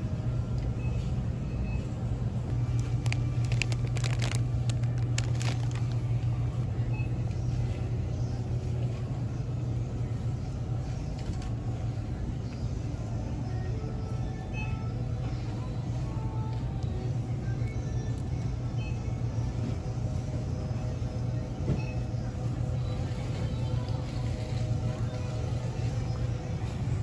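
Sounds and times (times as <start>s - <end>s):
refrigeration hum: 0.0s - 27.0s.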